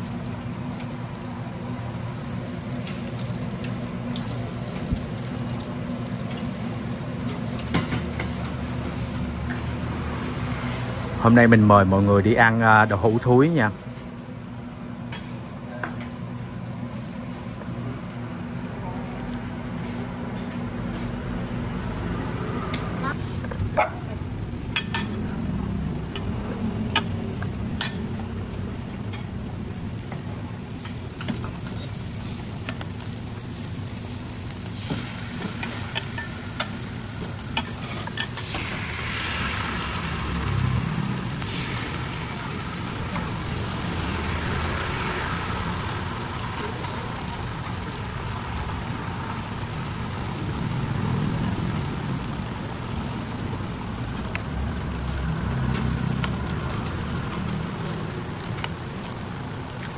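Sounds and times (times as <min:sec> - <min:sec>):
food deep-frying in hot oil: 0:00.0 - 0:18.7, 0:22.0 - 0:59.9.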